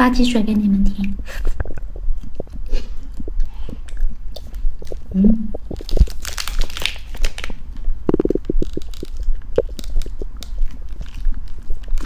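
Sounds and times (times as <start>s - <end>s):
chewing and lip-smacking: 1.0s - 12.0s.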